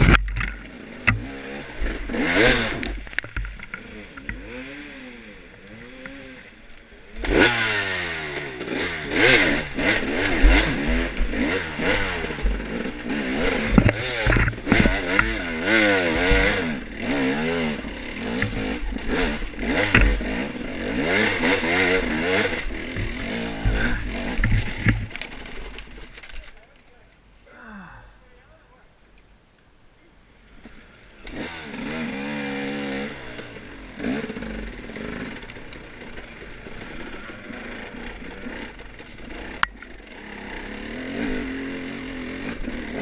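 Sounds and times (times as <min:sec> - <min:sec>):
dirt bike engine revving: 0:00.0 - 0:26.1, 0:30.6 - 0:43.0.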